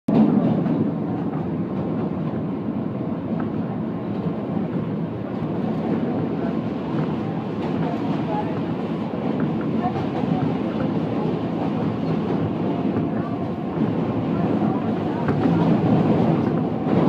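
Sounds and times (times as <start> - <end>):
subway train rumbling: 0.1 - 17.0.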